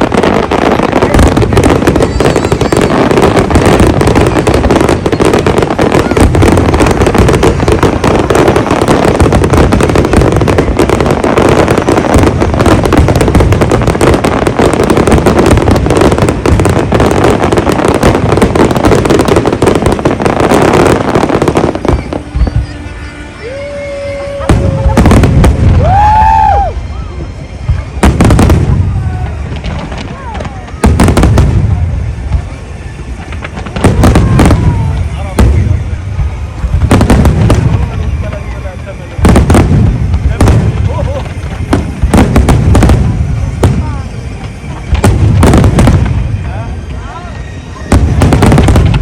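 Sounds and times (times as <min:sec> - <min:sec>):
fireworks bursts and crackle: 0:00.0 - 0:49.0.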